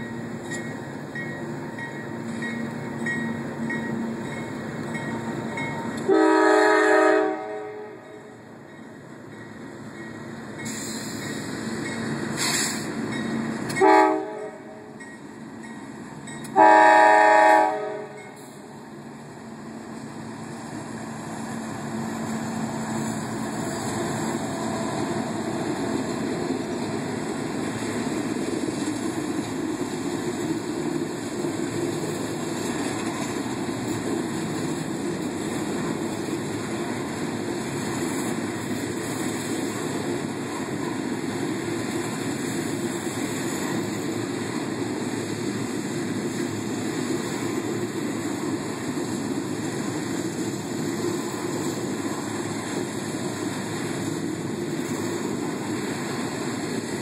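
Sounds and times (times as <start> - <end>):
freight train cars rumbling past: 0.0 - 57.0.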